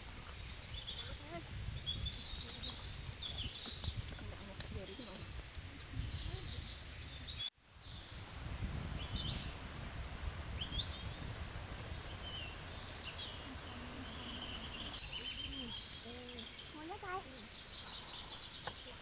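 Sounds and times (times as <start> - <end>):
birds chirping and whistling: 0.0 - 4.1, 5.9 - 19.0.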